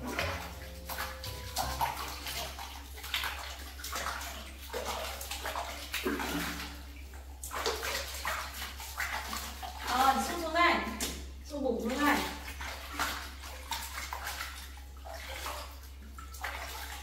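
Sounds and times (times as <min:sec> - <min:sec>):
water splashing in a bathtub: 0:00.0 - 0:17.0.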